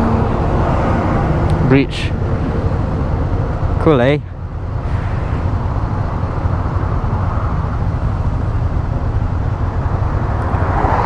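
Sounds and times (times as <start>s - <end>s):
motorcycle engine rumble: 0.0s - 11.0s
road noise: 0.0s - 11.0s.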